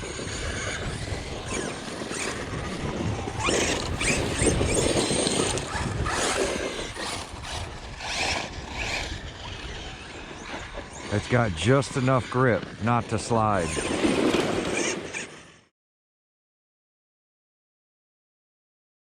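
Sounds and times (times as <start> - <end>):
electric motor whining: 0.0 - 15.7
tires scrabbling on dirt: 0.0 - 15.7.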